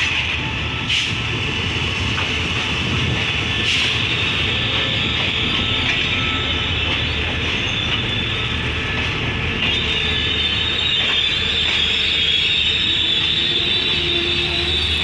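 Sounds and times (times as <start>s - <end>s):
high squeal from train wheels: 0.0s - 15.0s
train wheels rumbling on rails: 0.0s - 15.0s.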